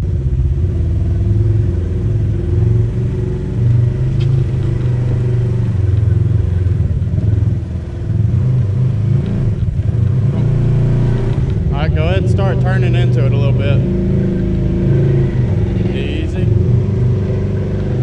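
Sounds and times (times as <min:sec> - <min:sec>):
vehicle engine at low revs: 0:00.0 - 0:18.0.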